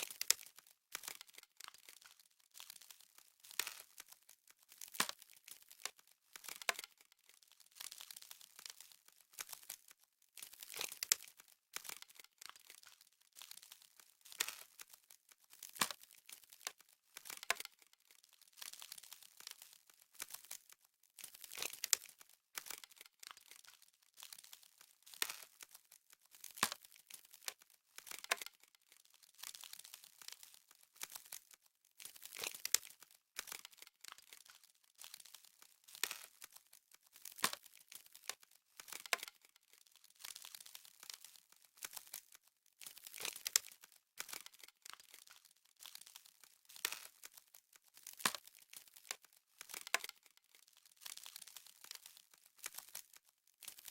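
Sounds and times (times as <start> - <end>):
frost crunching: 0.0 - 53.9.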